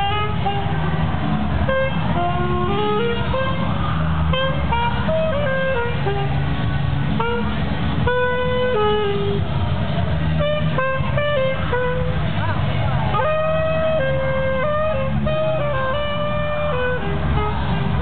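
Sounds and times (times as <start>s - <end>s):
saxophone melody: 0.0s - 9.5s, 10.3s - 12.3s, 13.0s - 18.0s.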